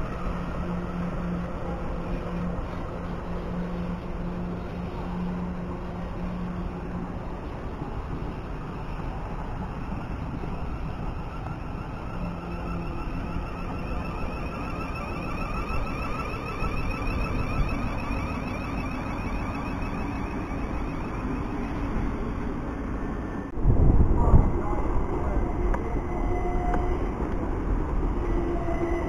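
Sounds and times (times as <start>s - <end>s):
thin whine: 0.0s - 29.0s
train wheels rumbling on rail: 0.0s - 29.0s.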